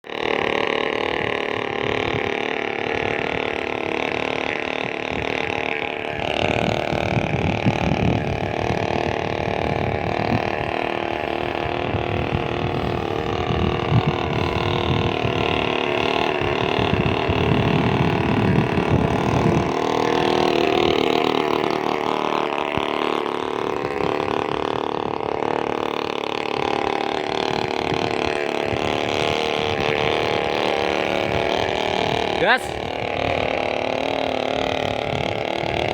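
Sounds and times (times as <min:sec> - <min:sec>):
small engine revving: 0:00.0 - 0:35.9.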